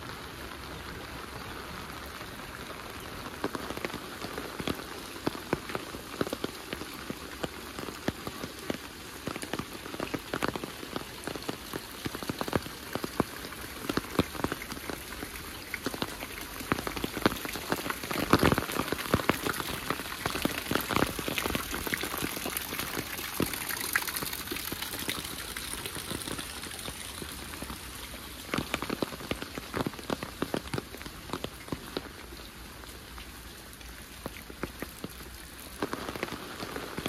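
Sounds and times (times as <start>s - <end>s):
raindrops striking close by: 0.0s - 37.0s
steady rain hiss: 0.0s - 37.0s.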